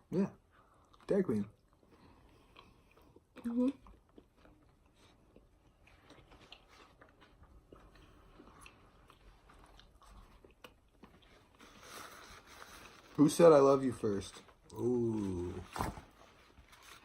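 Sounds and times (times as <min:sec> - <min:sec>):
people chewing food: 0:00.4 - 0:13.2, 0:14.3 - 0:17.0.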